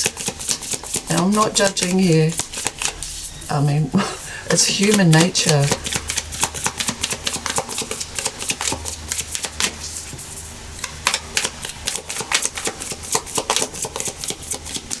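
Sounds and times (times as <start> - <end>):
cards being shuffled: 0.0 - 3.3, 4.6 - 10.2, 11.0 - 15.0.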